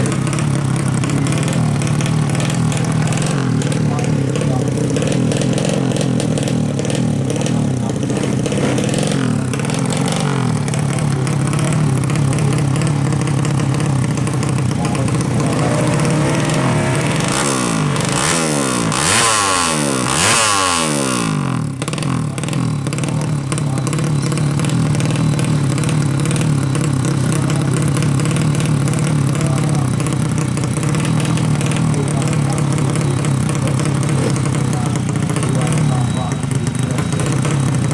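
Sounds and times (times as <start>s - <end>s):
motorcycle engine revving hard: 0.0s - 37.9s
motorcycle engines running: 0.0s - 37.9s.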